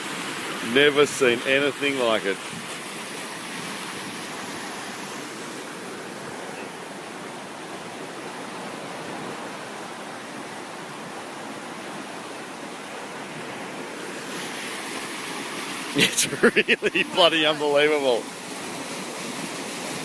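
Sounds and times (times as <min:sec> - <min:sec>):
floodwater rushing down a canal: 0:00.0 - 0:20.0.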